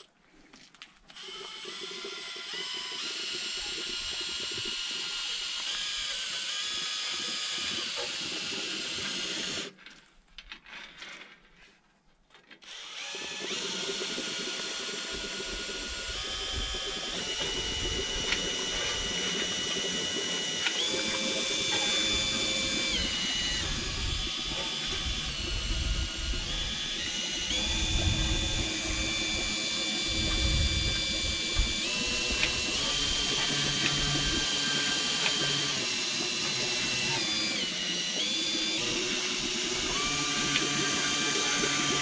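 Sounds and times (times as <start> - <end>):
cordless drill motor whine: 1.1 - 9.8, 12.6 - 42.0.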